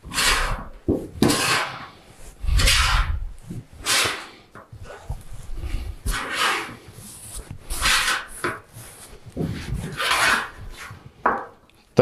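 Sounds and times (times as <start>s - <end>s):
hand tool scraping sheet steel: 0.0s - 11.1s.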